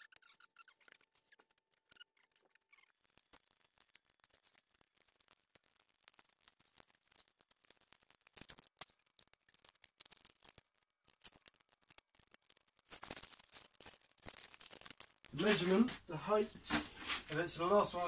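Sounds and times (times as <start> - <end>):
faint clicks and scrapes: 0.0 - 17.4.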